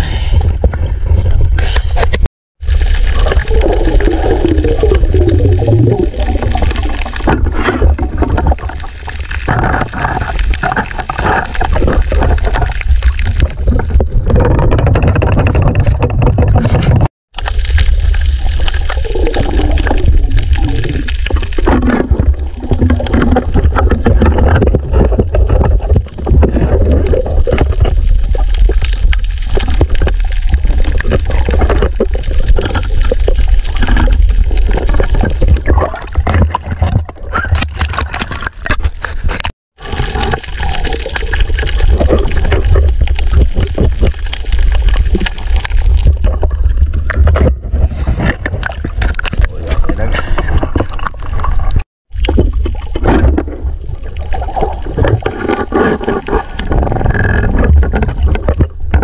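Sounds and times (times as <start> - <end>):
muffled underwater rushing water: 2.6 - 59.0.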